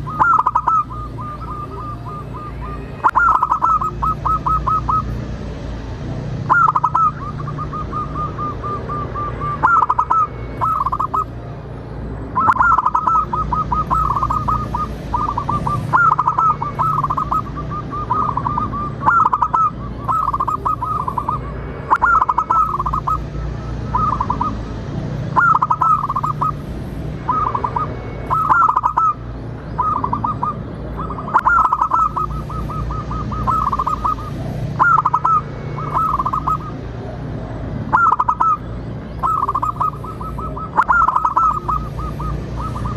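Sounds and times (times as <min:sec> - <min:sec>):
dove quavering calls: 0:00.0 - 0:05.3, 0:06.4 - 0:11.4, 0:12.3 - 0:24.7, 0:25.3 - 0:26.6, 0:27.2 - 0:37.1, 0:37.8 - 0:42.9.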